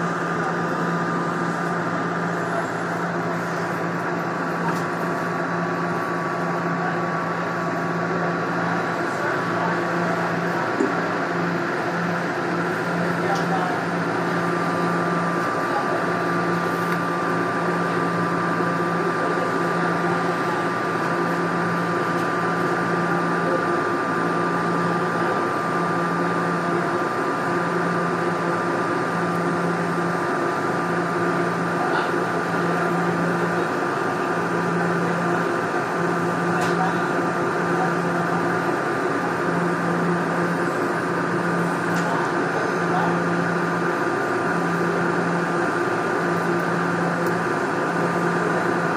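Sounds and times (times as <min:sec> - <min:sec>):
constant high whine: 0:00.0 - 0:48.9.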